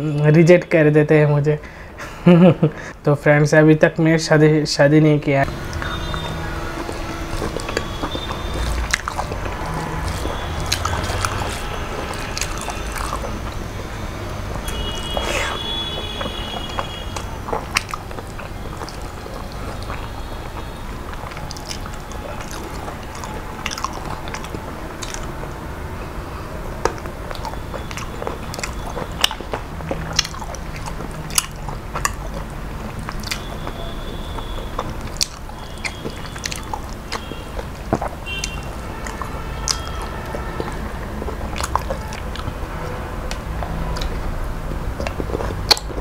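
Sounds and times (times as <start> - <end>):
man chewing food: 5.5 - 46.0
lip smacks: 5.7 - 13.7, 14.6 - 25.4, 26.8 - 44.3, 45.0 - 46.0.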